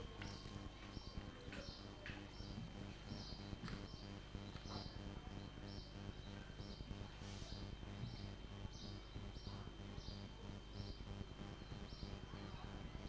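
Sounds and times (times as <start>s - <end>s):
steady low hum: 0.0s - 13.0s
high bird chirps: 0.2s - 6.9s, 7.5s - 12.2s.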